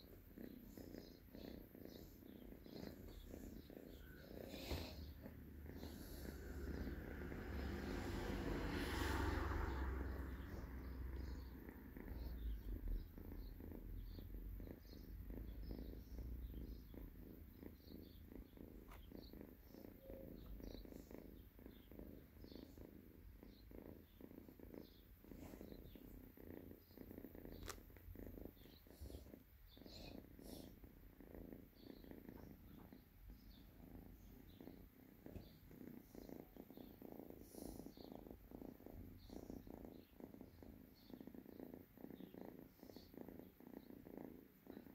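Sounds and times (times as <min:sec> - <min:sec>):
kitten purring: 0:00.0 - 0:44.9.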